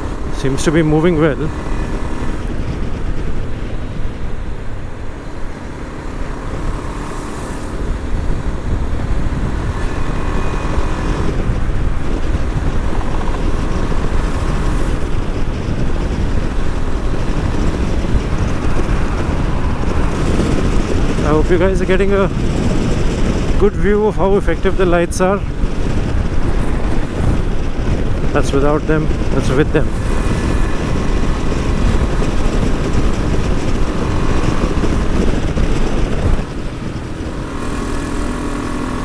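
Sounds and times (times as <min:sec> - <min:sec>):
motorcycle engine rumble: 0:00.0 - 0:39.0
wind and road noise: 0:00.0 - 0:39.0.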